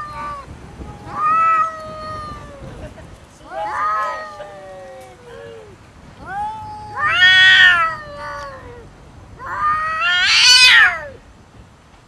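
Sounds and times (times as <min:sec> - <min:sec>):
cats yowling aggressively: 0:00.0 - 0:02.8, 0:03.5 - 0:11.2.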